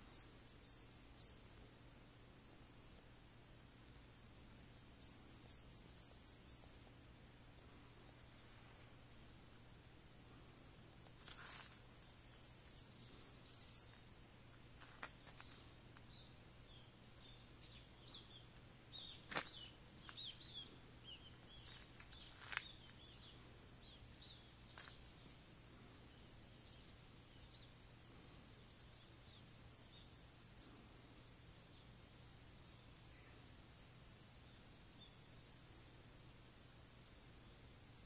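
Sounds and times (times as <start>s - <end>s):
songbird singing: 0.0s - 2.7s, 4.5s - 38.0s.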